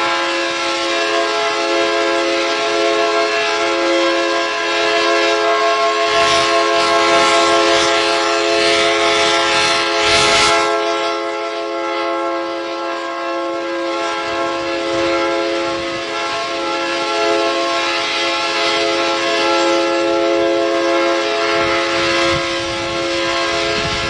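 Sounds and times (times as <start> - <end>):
train rushing: 0.0 - 12.4, 13.9 - 24.0
train horn chord: 0.0 - 24.0.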